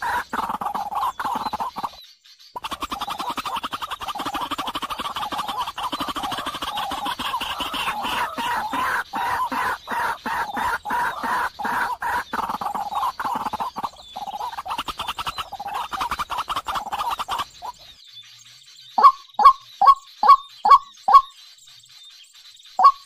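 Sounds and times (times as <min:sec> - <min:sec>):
birds calling rapid notes: 0:00.0 - 0:23.0.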